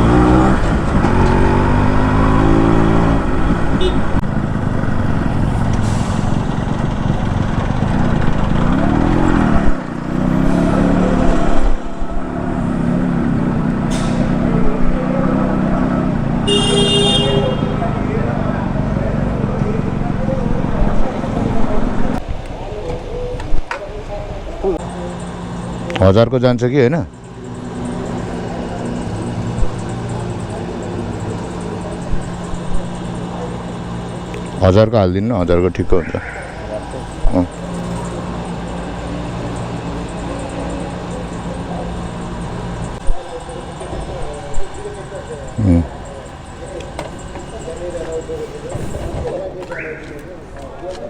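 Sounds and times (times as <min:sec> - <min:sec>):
motorcycle engine running: 0:00.0 - 0:23.3, 0:24.5 - 0:48.7
road noise: 0:00.0 - 0:51.0.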